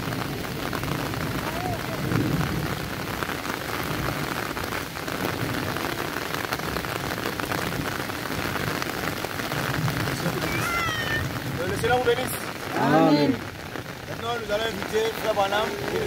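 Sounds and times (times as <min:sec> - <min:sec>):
rain falling on water: 0:00.0 - 0:16.0.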